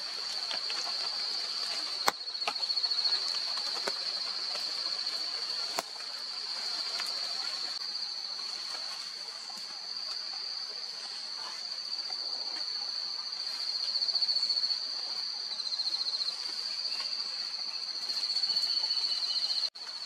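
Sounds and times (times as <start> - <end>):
insects trilling: 0.0 - 20.0
lower insect trill: 0.0 - 20.0.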